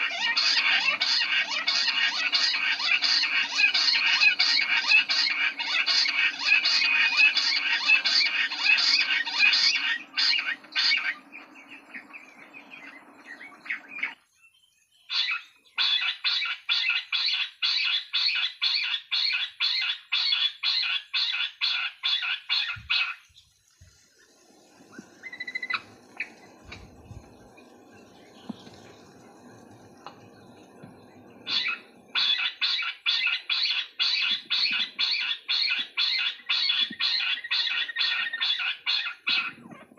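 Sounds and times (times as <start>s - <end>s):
quail calling harsh notes: 0.0s - 14.2s, 15.1s - 23.3s, 24.2s - 29.7s, 30.9s - 39.9s.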